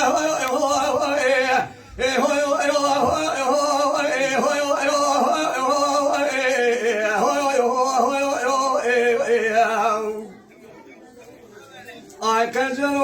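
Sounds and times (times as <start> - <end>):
man singing ornamented vocal line: 0.0 - 10.3, 12.2 - 13.0.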